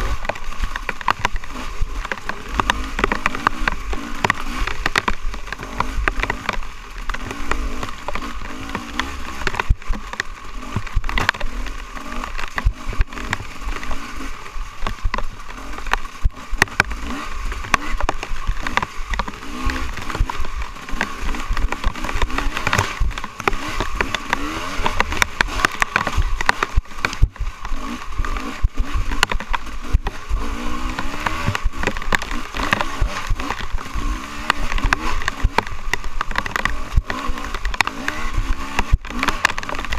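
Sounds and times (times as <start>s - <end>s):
dirt bike engine running: 0.0s - 39.9s
sharp knocks and rattles: 0.0s - 39.9s.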